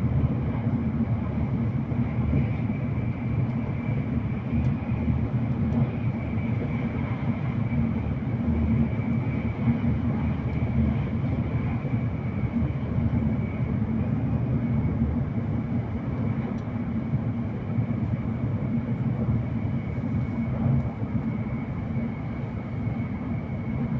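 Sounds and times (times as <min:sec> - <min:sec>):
train cabin low rumble: 0:00.0 - 0:23.9.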